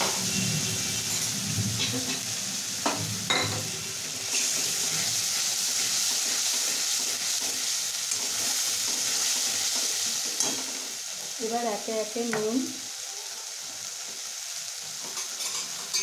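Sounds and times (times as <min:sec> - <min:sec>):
paste sizzling in hot oil: 0:00.0 - 0:16.0.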